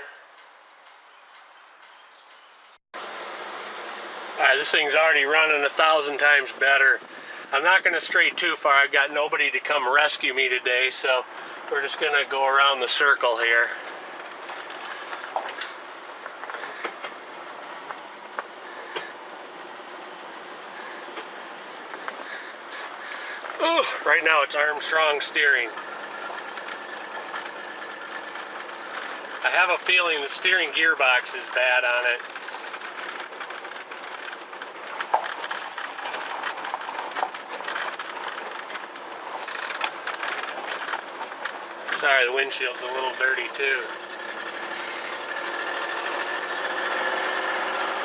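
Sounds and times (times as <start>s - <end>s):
engine and tyres rumbling: 0.0s - 48.0s.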